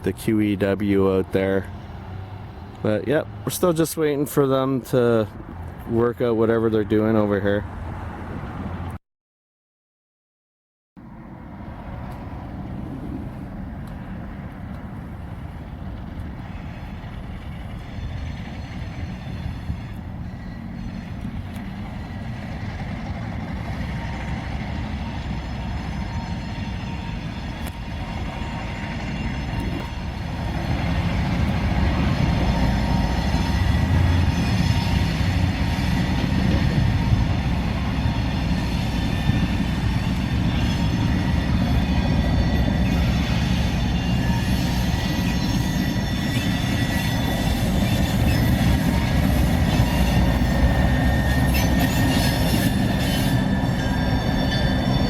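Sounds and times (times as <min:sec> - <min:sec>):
freight train rumbling: 0:00.0 - 0:09.0, 0:11.0 - 0:55.0.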